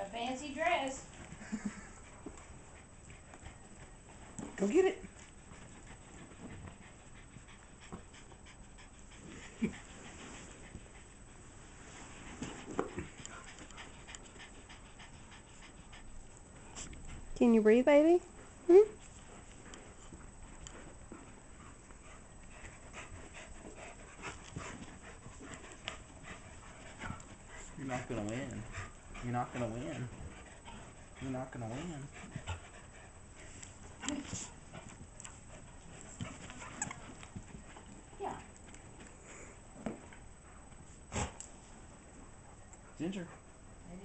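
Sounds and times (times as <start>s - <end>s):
dog panting: 0.1s - 44.0s.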